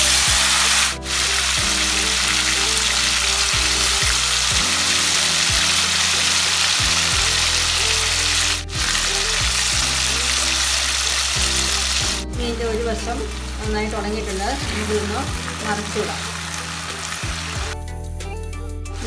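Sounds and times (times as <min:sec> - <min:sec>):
fish sizzling in hot oil: 0:00.0 - 0:17.8.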